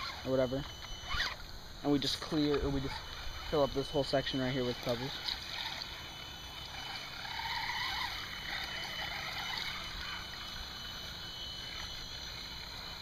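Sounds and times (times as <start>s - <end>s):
faint electric motor whine: 0.0s - 13.0s.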